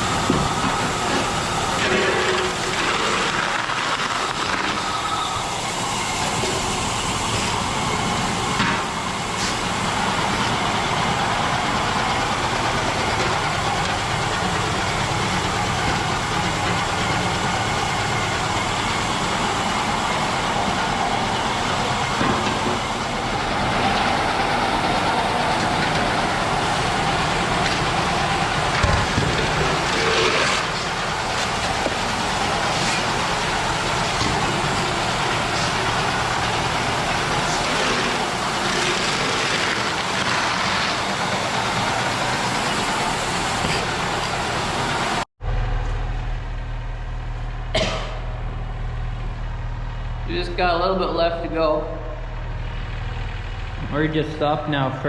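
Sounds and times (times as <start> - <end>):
grain auger mechanical drone: 0.0 - 55.0.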